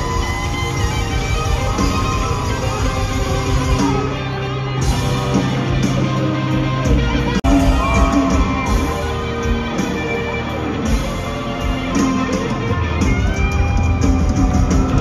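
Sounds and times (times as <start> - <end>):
crowd shouting: 0.0 - 5.9, 7.2 - 15.0
electric guitar lead bending notes: 0.0 - 15.0
live rock band playing: 0.0 - 15.0.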